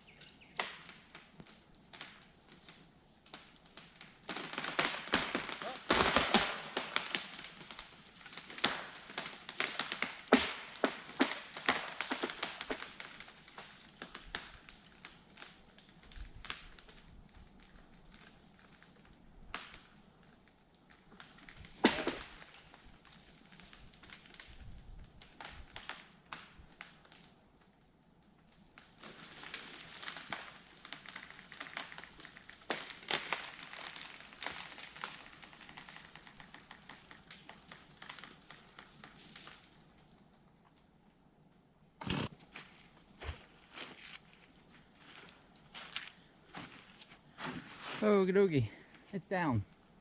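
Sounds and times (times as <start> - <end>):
tree wood cracking: 0.1 - 27.7, 28.4 - 40.8, 42.0 - 50.0
wood crackling and snapping: 0.1 - 50.0.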